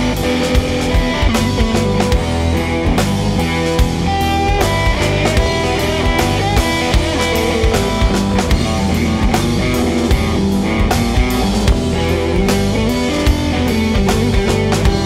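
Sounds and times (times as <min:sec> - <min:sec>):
blues-rock band playing: 0:00.0 - 0:15.0
drum kit steady beat: 0:00.0 - 0:15.0
electric guitar: 0:00.0 - 0:15.0.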